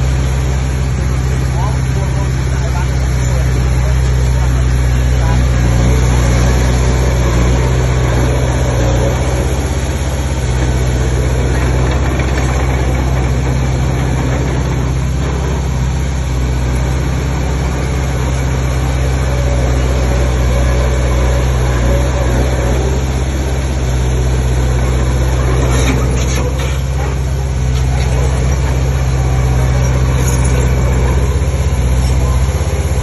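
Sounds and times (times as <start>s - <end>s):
diesel engine droning: 0.0s - 33.0s.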